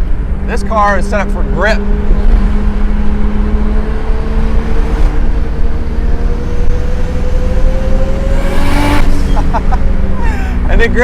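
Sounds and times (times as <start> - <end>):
car engine under load: 0.0 - 11.0.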